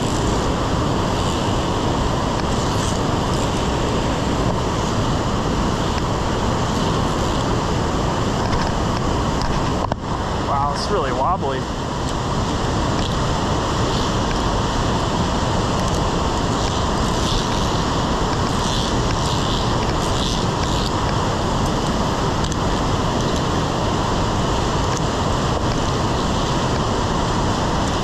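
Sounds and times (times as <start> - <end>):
river rushing roar: 0.0 - 28.0.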